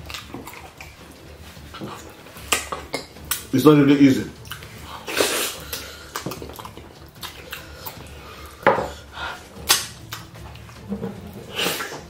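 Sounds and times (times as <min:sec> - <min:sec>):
chewing and slurping: 0:00.0 - 0:03.5, 0:04.4 - 0:12.0.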